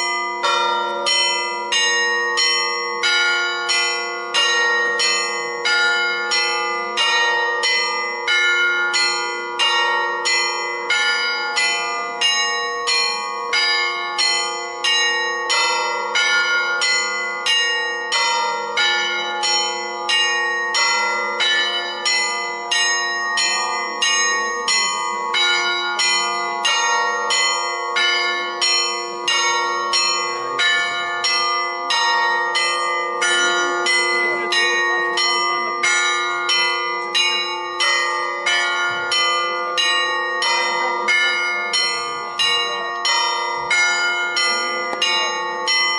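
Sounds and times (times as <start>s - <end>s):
church bells pealing: 0.0s - 45.9s.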